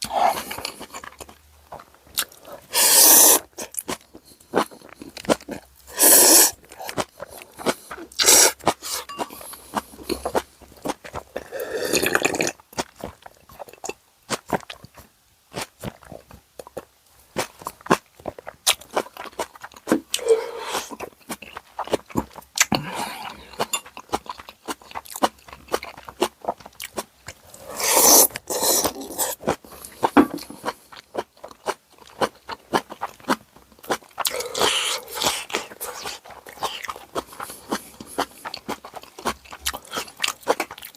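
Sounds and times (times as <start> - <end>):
person chewing and crunching: 0.0 - 40.9.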